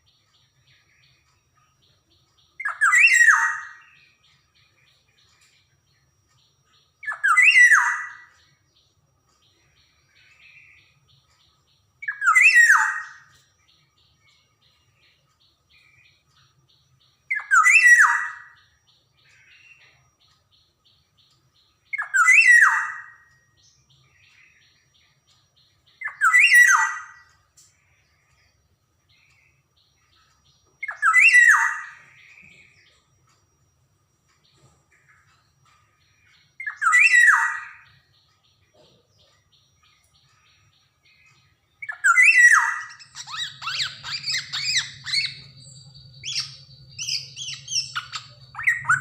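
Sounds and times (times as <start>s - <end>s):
soft bird notes: 0.0s - 49.0s.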